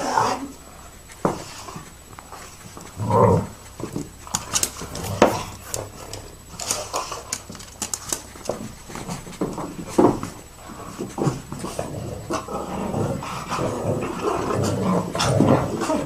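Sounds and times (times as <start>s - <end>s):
rustling: 0.2s - 16.0s.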